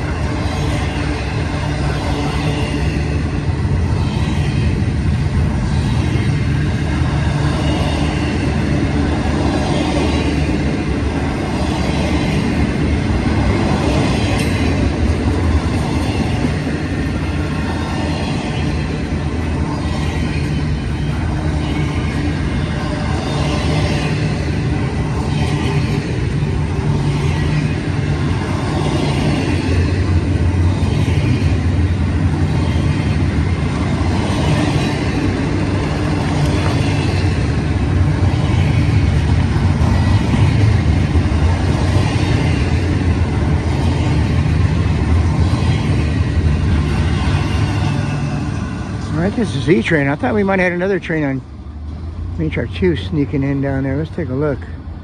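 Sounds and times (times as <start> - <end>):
low engine drone: 0.0 - 55.0
train cars rumbling on rails: 0.0 - 55.0.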